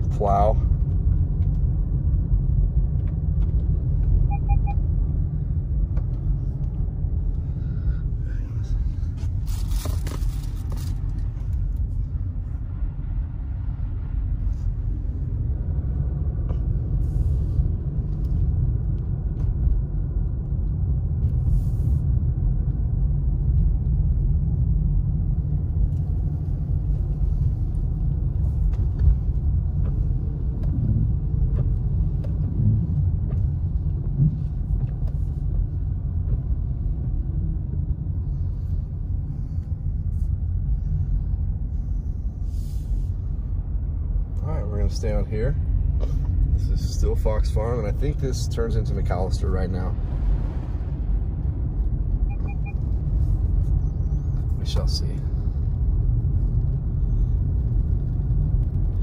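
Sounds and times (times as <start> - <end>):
car engine and tyres on snow: 0.0 - 59.0.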